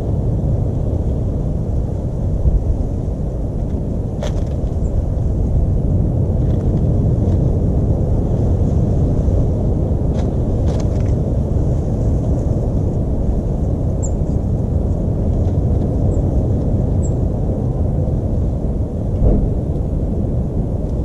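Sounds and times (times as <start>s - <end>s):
low rumble of outdoor background: 0.0s - 21.0s.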